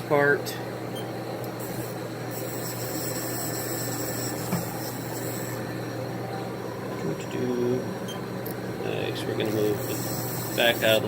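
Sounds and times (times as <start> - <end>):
machine mechanical hum: 0.0 - 11.0
thin high whine: 0.9 - 11.0.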